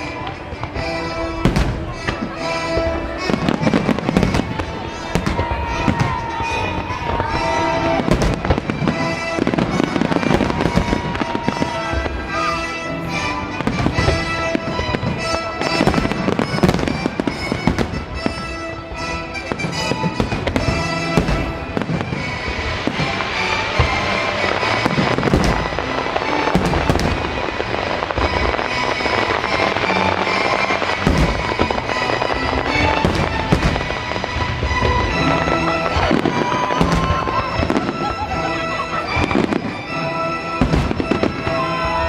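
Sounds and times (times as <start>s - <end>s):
fireworks bursting: 0.0s - 42.0s
music playing: 0.0s - 42.0s.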